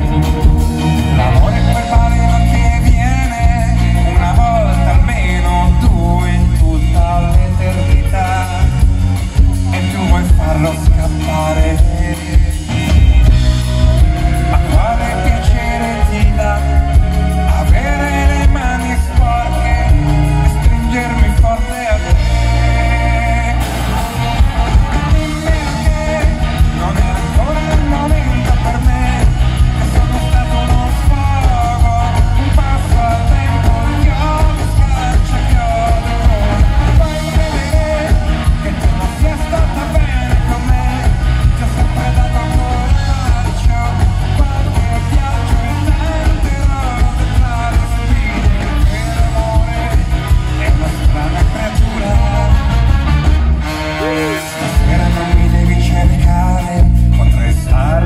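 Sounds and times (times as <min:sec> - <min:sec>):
live rock band playing: 0:00.0 - 0:58.0
man singing lead: 0:00.0 - 0:58.0.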